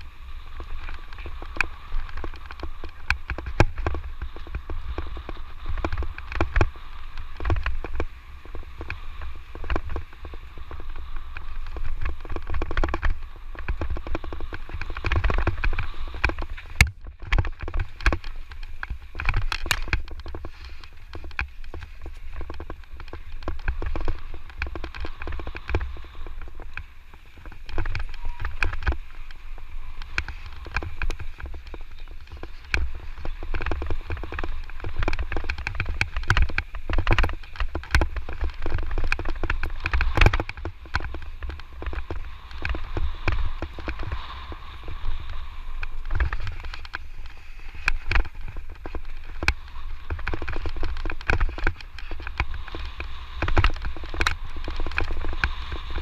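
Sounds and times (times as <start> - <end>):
bike rattling and knocking: 0.0 - 56.0
tyres on loose ground: 0.0 - 56.0.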